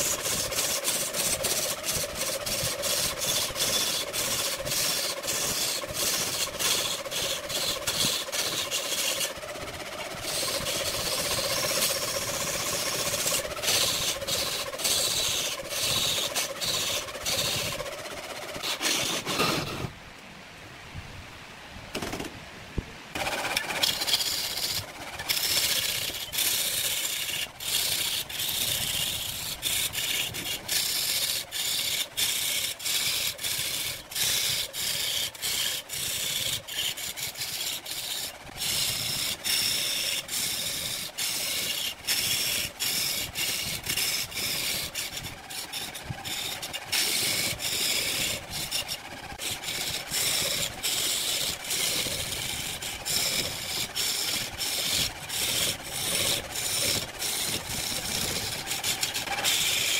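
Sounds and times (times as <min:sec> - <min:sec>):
lathe tool scraping wood: 0:00.0 - 0:19.9, 0:23.2 - 0:59.9.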